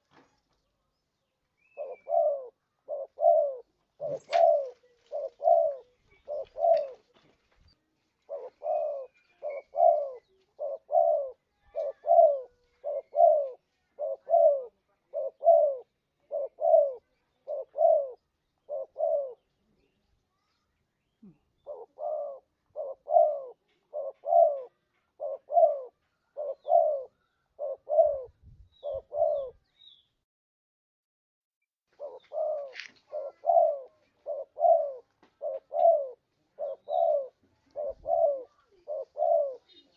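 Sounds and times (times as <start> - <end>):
dove cooing: 1.6 - 7.3, 8.2 - 20.0, 21.2 - 29.6, 32.0 - 39.9.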